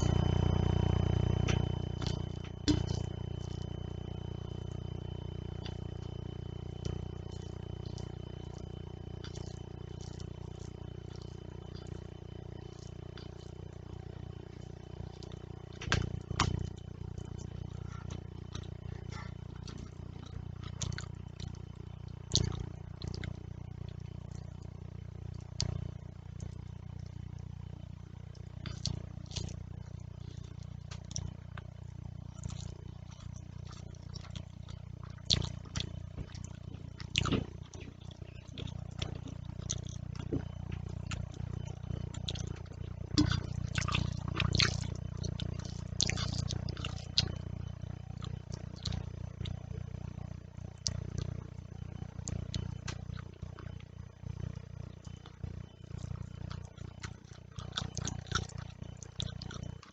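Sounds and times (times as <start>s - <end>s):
steady low hum: 0.0s - 59.9s
wet chewing: 0.0s - 59.9s.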